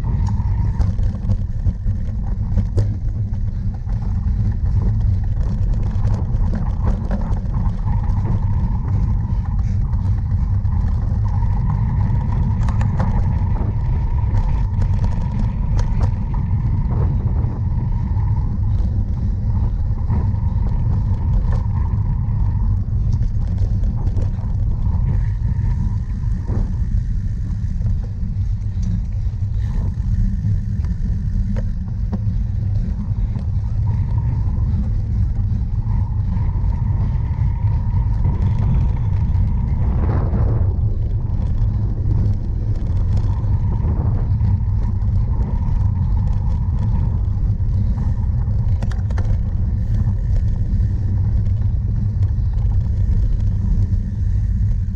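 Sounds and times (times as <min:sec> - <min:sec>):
bike clicks and rattles: 0:00.0 - 0:54.9
wind buffeting microphone: 0:00.0 - 0:54.9.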